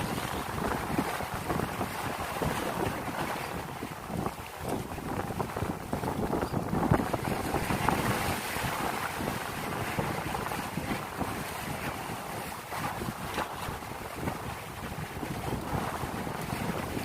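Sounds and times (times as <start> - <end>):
sea waves splashing: 0.0 - 17.0
wind buffeting microphone: 0.0 - 17.0.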